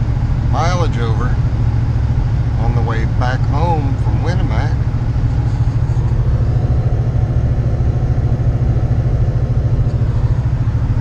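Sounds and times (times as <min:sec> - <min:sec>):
car interior highway drone: 0:00.0 - 0:11.0.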